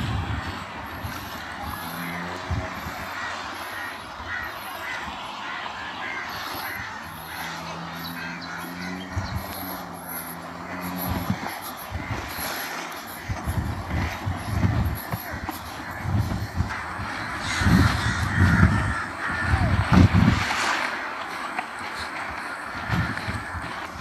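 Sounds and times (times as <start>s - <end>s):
breeze: 0.0s - 24.0s
ocean waves washing on beach: 0.0s - 24.0s.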